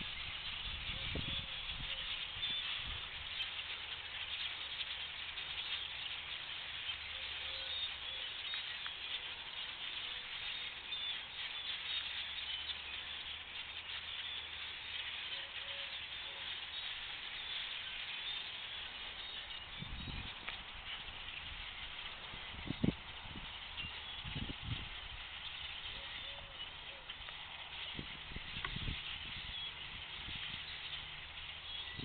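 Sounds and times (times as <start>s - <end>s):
birds chirping in chorus: 0.0s - 32.0s.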